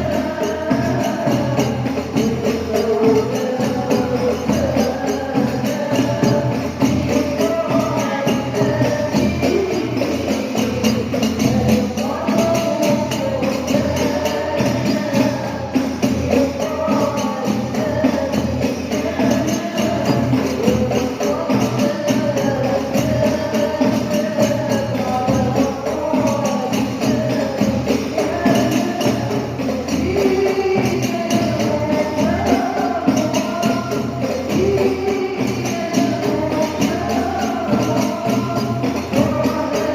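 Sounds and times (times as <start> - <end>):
hand-beaten frame drums: 0.0 - 39.9
tambourine jingles: 0.0 - 39.9
women singing devotional song: 0.0 - 39.9.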